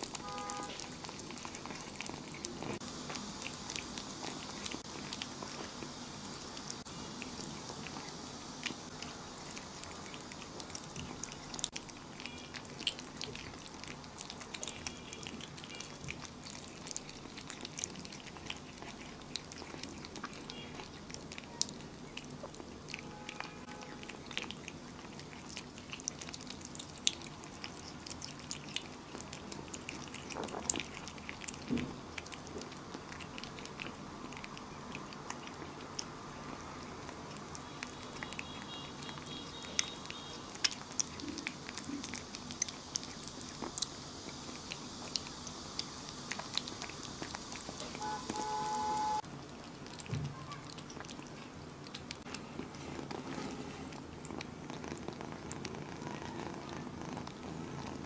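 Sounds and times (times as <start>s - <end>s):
kittens licking and chewing: 0.0s - 58.0s.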